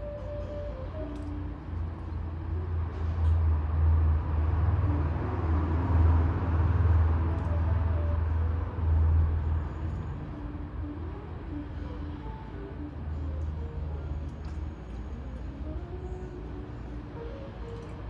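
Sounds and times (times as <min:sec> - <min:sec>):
road noise: 0:00.0 - 0:18.0
traffic engine rumble: 0:00.0 - 0:18.0.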